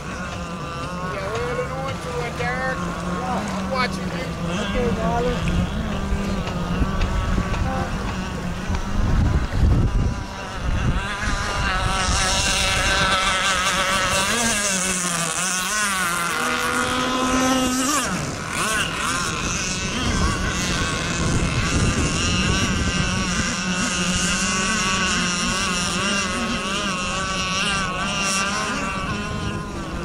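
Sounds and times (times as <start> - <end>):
model boat engines revving: 0.0 - 30.0
wind buffeting microphone: 0.0 - 30.0.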